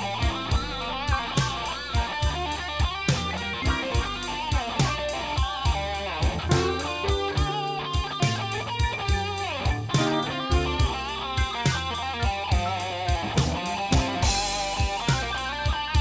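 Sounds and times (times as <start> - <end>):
bass: 0.0 - 16.0
electric guitar: 0.0 - 16.0
steady drum beat: 0.0 - 16.0.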